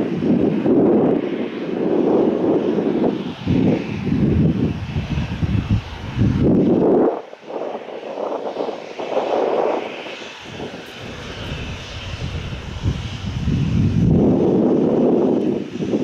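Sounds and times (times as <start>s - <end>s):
jet engines whining: 0.0s - 16.0s
wind rumbling on microphone: 0.0s - 16.0s.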